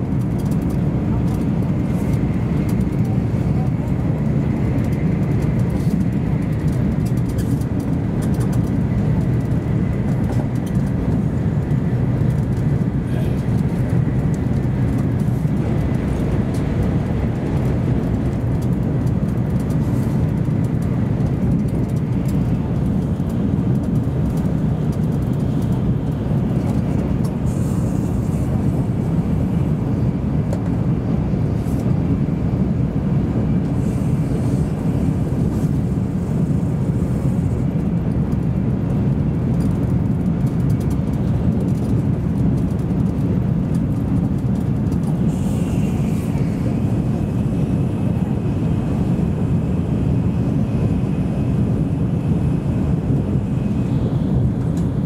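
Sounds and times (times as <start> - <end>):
train cabin rumble: 0.0 - 55.0.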